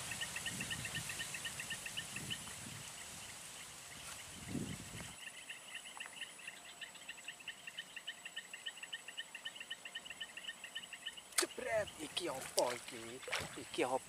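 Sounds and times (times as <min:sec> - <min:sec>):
high insect whine: 0:00.0 - 0:14.0
insects chirping: 0:00.0 - 0:14.0.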